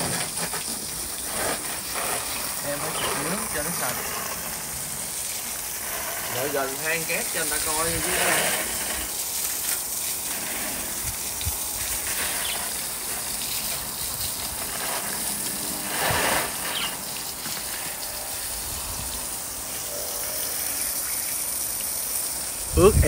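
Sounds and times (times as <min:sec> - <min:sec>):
water gushing from garden hose: 0:00.0 - 0:23.0.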